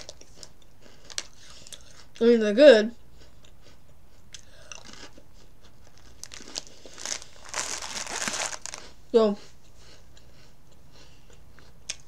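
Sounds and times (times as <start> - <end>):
faint crunching of crackers: 0.0 - 2.3, 3.0 - 12.0.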